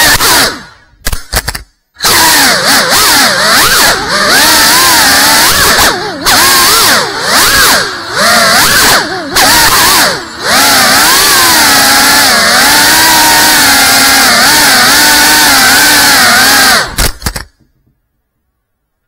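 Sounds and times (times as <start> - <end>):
drone motors whining: 0.0 - 1.0, 2.0 - 17.5.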